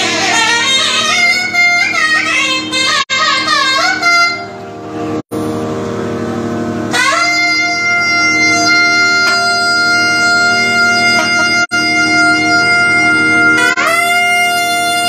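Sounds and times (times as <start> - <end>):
double-reed pipe playing: 0.0 - 5.2, 6.8 - 15.0.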